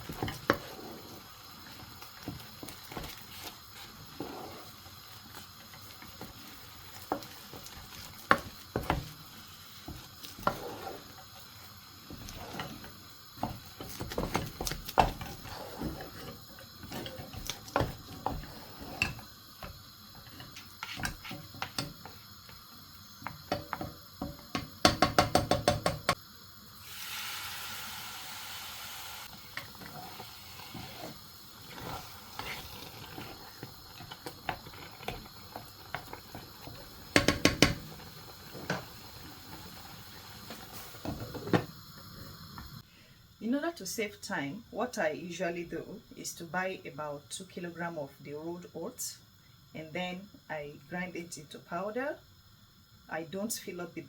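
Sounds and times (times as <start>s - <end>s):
hiss: 0.0s - 43.3s.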